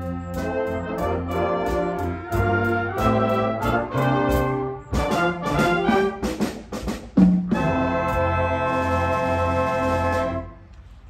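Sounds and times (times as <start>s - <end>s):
concert band playing: 0.0s - 10.7s.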